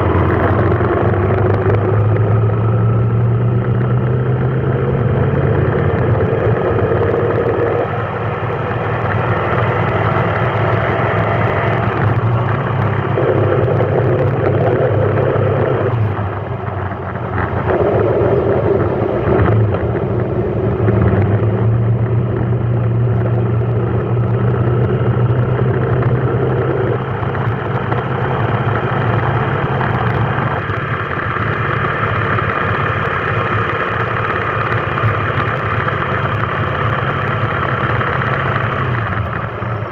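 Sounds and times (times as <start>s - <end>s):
vehicle engine low hum: 0.0s - 39.9s.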